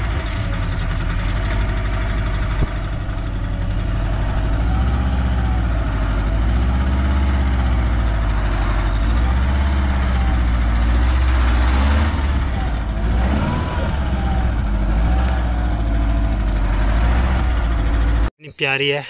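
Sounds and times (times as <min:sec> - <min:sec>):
off-road vehicle engine revving: 0:00.0 - 0:18.3.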